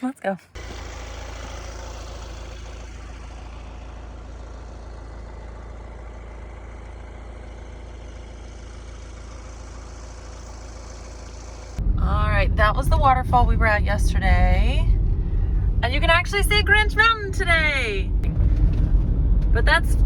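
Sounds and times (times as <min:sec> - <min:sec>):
van engine and road noise: 0:00.0 - 0:20.0.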